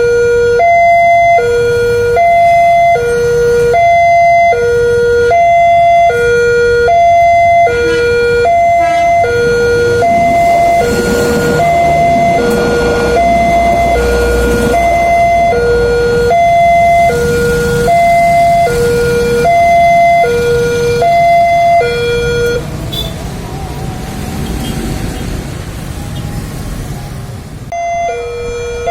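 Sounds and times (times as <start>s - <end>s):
two-tone level crossing alarm: 0.0s - 22.8s, 27.7s - 28.9s.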